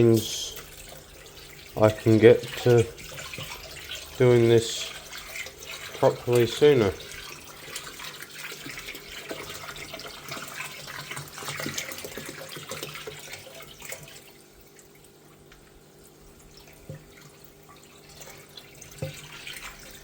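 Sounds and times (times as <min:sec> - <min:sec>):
water drips: 0:00.0 - 0:20.0
water splashing and trickling: 0:00.0 - 0:20.0.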